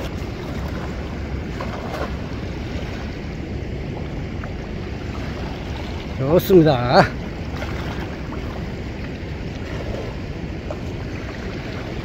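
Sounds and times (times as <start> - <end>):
sea water noise: 0.0 - 12.0
wind rumble on microphone: 0.0 - 12.0.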